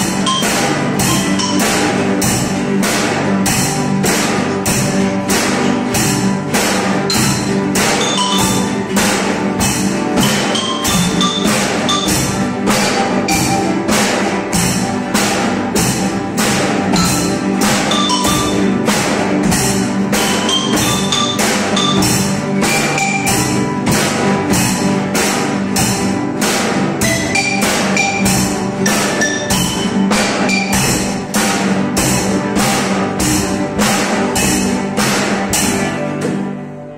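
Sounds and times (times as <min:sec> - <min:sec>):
marimba notes: 0:00.0 - 0:35.9
conga and drum kit beat: 0:00.0 - 0:36.7
guitars strumming: 0:00.0 - 0:36.9.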